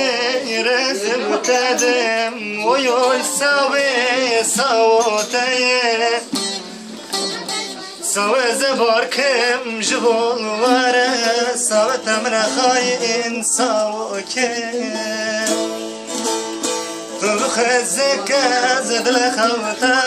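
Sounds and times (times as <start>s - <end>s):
man singing folk song: 0.0s - 20.0s
plucked string instrument: 0.0s - 20.0s.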